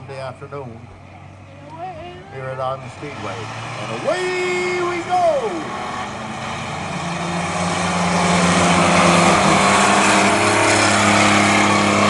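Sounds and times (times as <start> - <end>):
race truck engines racing: 0.0 - 12.0.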